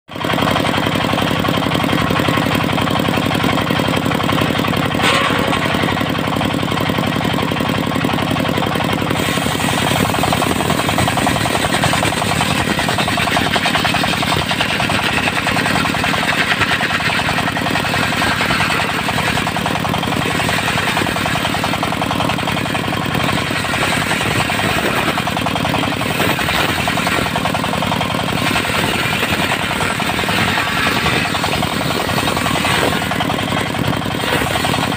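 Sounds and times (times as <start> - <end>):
diesel engine running hard: 0.1 - 34.9
circular saw cutting wood: 0.2 - 34.9.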